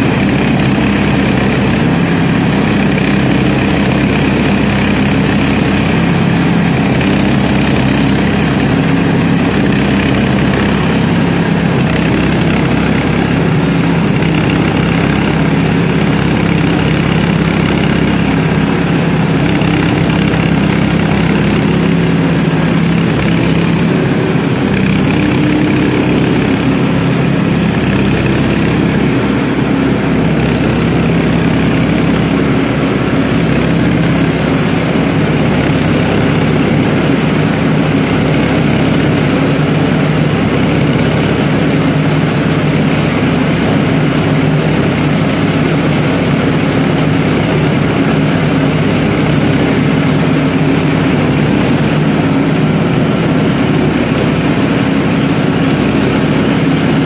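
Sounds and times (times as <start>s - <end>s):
small petrol engine running: 0.0s - 57.0s.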